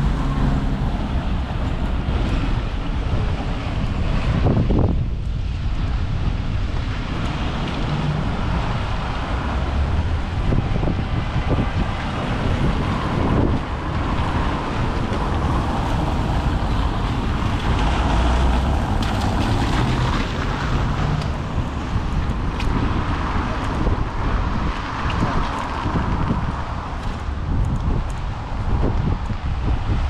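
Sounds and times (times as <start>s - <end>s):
rain hiss on wet street: 0.0s - 30.0s
wind rumbling on microphone: 0.0s - 30.0s.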